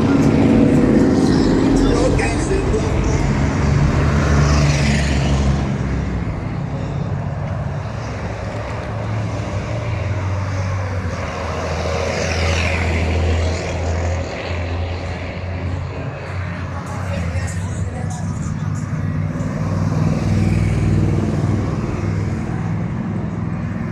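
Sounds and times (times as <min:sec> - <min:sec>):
heavy truck engines droning: 0:00.0 - 0:23.9
vehicles passing by: 0:00.0 - 0:23.9.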